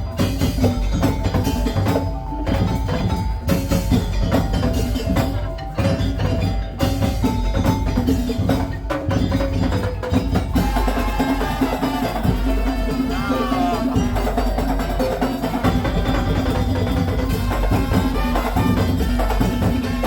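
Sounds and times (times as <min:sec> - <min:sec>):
wooden slit drums and percussion: 0:00.0 - 0:20.0.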